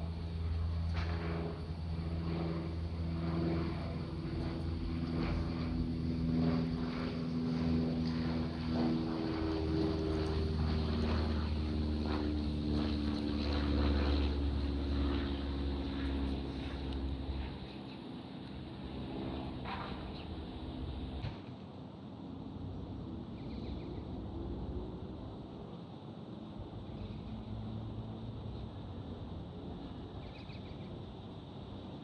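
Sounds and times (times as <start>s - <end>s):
propeller aircraft engine droning: 0.0s - 32.0s.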